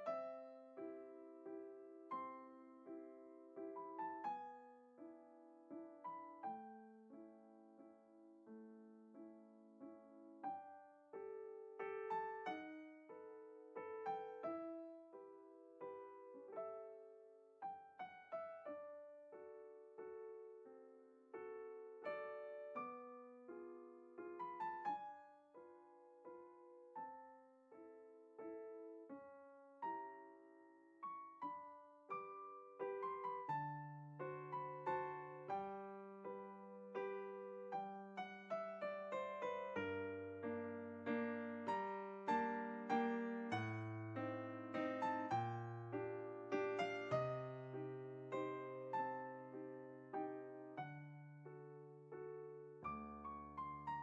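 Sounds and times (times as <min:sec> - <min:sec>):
quiet piano music: 0:00.0 - 0:54.0.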